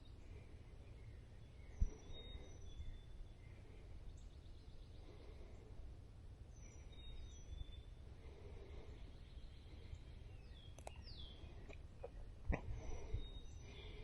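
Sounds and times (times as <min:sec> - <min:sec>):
low steady rumble: 0:00.0 - 0:14.0
songbirds singing: 0:00.0 - 0:14.0.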